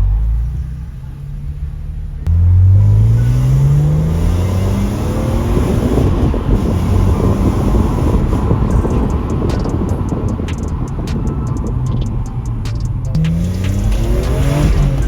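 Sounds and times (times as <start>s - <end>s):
car engine revving at full throttle: 0.0s - 15.0s.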